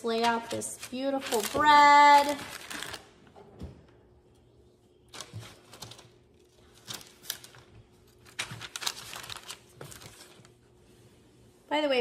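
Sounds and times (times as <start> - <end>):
parchment paper rustling: 0.0 - 3.2, 5.0 - 11.6.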